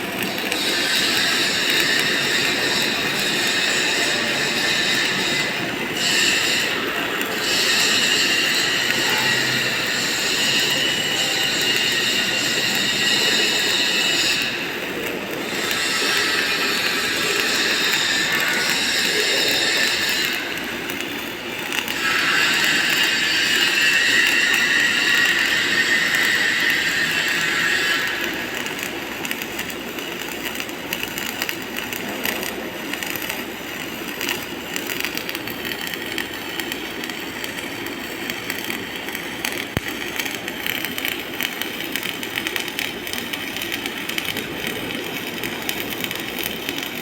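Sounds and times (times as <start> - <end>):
welding arc crackling: 0.0 - 47.0.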